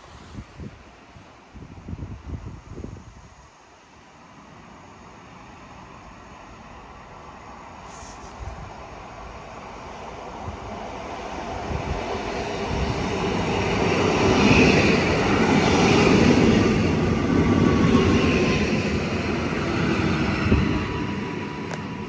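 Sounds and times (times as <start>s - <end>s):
faint train whine: 0.0s - 22.0s.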